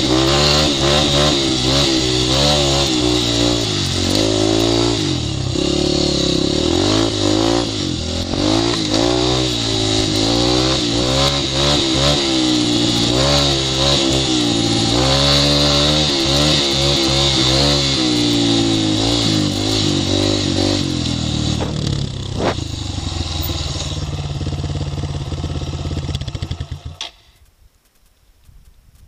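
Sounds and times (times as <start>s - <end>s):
dirt bike engine revving: 0.0s - 27.1s.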